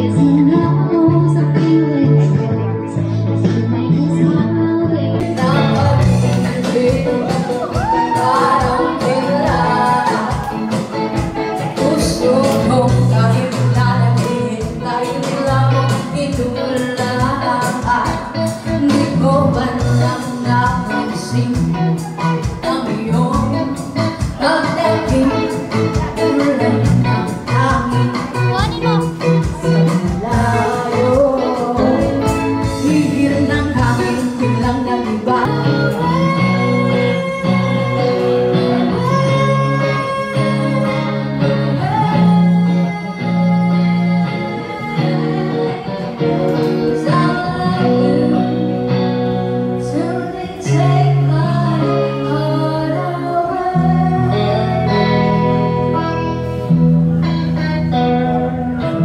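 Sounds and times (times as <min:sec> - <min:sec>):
live guitar accompaniment: 0:00.0 - 0:59.0
low bass notes: 0:00.0 - 0:59.0
woman singing into a microphone: 0:00.0 - 0:59.0.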